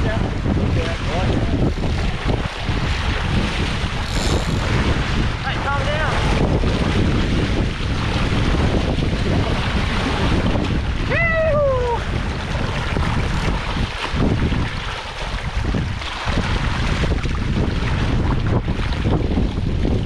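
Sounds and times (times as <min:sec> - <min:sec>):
waves washing: 0:00.0 - 0:19.1
wind buffeting microphone: 0:00.0 - 0:20.0.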